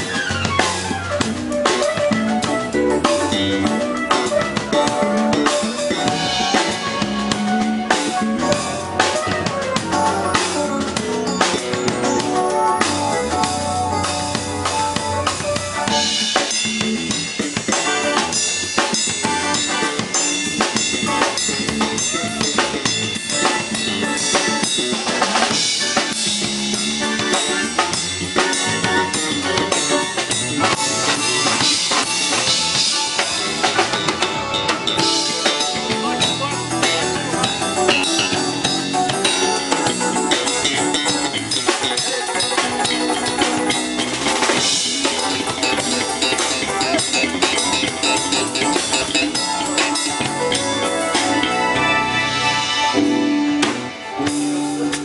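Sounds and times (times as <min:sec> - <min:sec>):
drum kit beat: 0:00.0 - 0:55.0
electric bass: 0:00.0 - 0:55.0.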